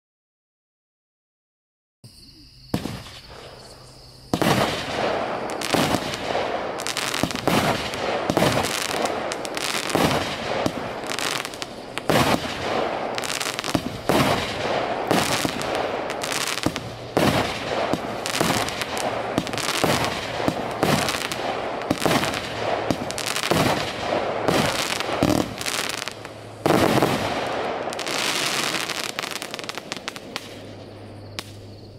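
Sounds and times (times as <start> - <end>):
crackling firework stars: 2.7 - 31.9
firework fuse hiss: 2.8 - 30.6.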